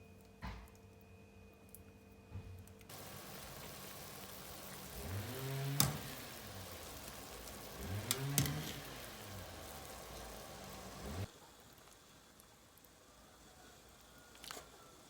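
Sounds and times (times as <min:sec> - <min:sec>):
steady rain: 0:02.9 - 0:15.0.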